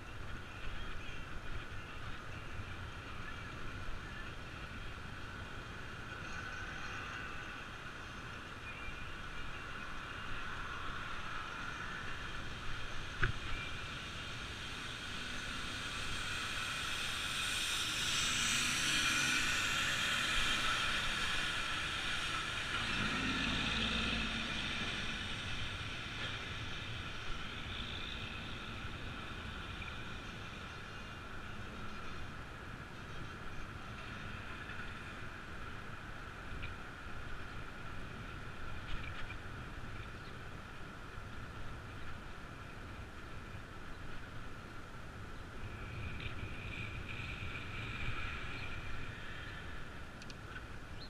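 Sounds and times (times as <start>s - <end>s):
passing traffic: 0.0s - 51.0s
road noise: 0.0s - 51.0s
wind: 0.0s - 51.0s.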